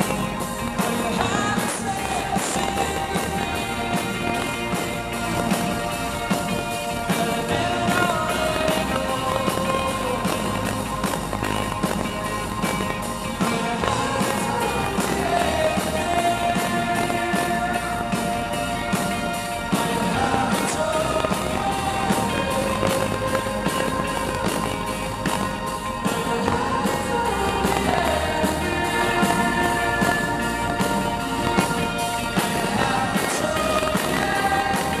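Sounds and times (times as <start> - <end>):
live rock band playing: 0.0 - 35.0
person singing: 0.0 - 35.0.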